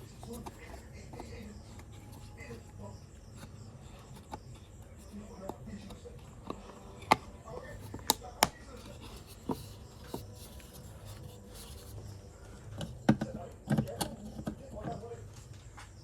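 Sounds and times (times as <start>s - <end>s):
small hard parts clicking: 0.0s - 16.0s.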